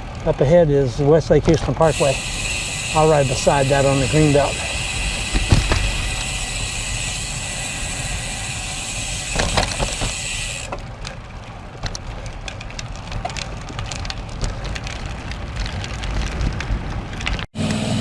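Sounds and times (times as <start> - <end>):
bike rolling noise: 0.0 - 18.0
wind and traffic hiss: 0.0 - 18.0.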